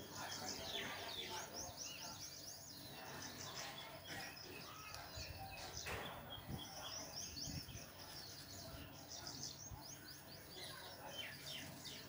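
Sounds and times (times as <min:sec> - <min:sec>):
faint background noise: 0:00.0 - 0:12.0
small birds chirping: 0:00.0 - 0:12.0.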